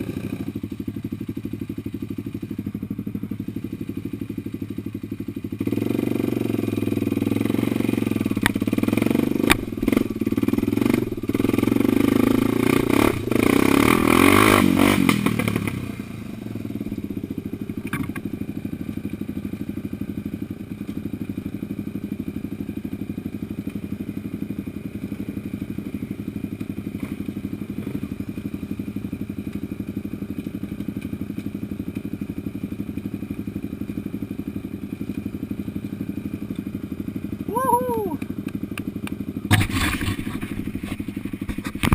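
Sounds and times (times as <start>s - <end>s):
off-road vehicle engine: 0.0s - 41.9s.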